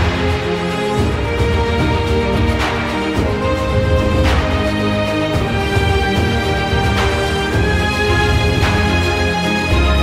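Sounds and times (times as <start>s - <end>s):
background music with strong bass: 0.0s - 10.0s.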